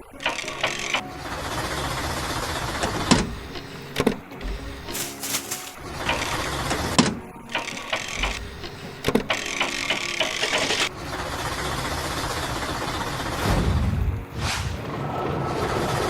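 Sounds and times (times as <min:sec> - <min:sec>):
machinery clattering: 0:00.2 - 0:13.4.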